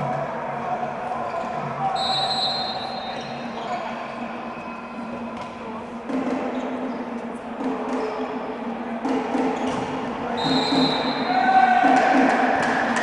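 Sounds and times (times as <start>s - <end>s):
crowd voices din: 0.0s - 13.0s.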